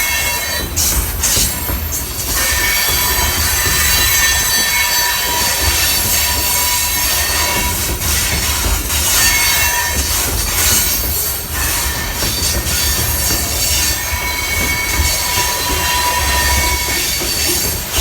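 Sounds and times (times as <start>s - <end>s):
freight train cars rolling: 0.0s - 18.0s
train wheels squealing: 0.0s - 18.0s.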